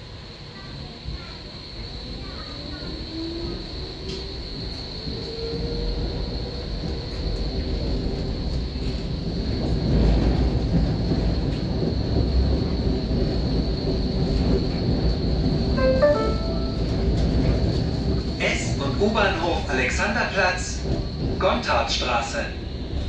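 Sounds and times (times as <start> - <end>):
tram wheels rumbling on rails: 0.0 - 23.0.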